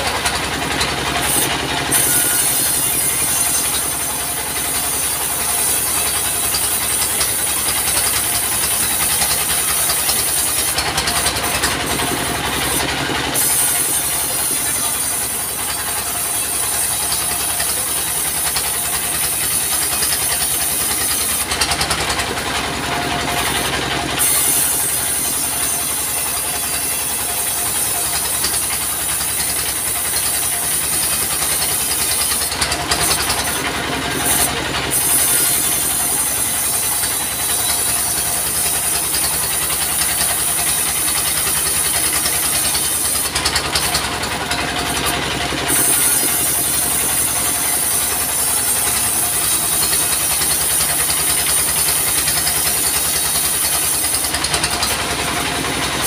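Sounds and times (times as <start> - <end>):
bandsaw sawmill cutting log: 0.0 - 56.0.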